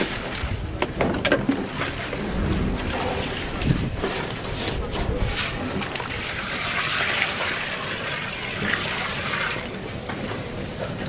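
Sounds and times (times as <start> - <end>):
flowing liquid rushing: 0.0 - 11.0.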